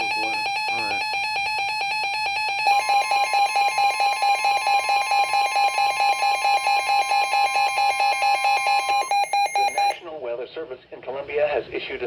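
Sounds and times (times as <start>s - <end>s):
rapidly pulsing alert beep: 0.0s - 10.0s
steady alarm tone: 0.0s - 10.0s.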